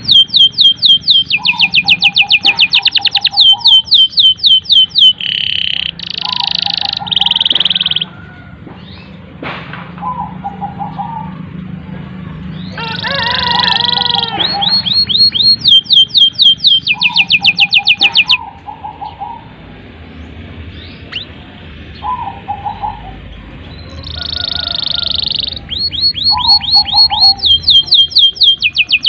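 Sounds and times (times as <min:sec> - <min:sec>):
canary singing: 0:00.0 - 0:09.3, 0:10.0 - 0:29.0.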